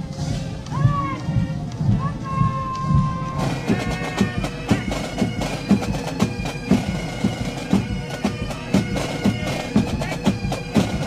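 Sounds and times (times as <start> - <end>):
marching band held tones: 0.0 - 11.0
marching drum beat: 0.0 - 11.0.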